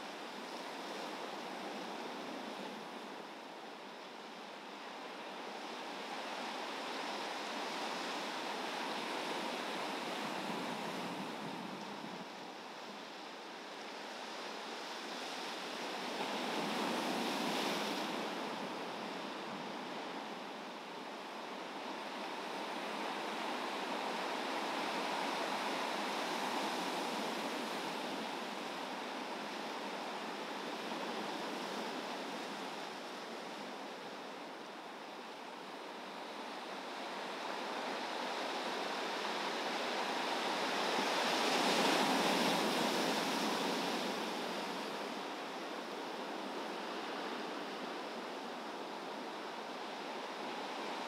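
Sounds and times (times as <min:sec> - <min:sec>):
wind: 0:00.0 - 0:51.0.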